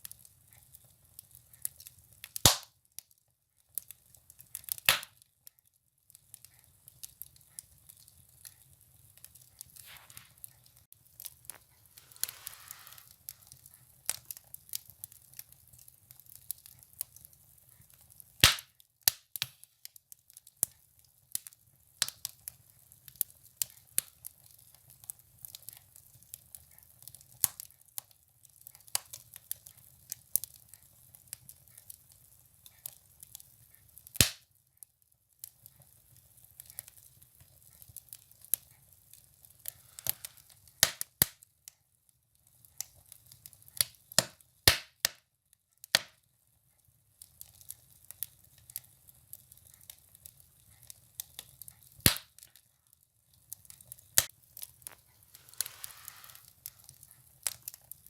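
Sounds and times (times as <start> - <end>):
firewood crackling and popping: 0.0 - 58.0.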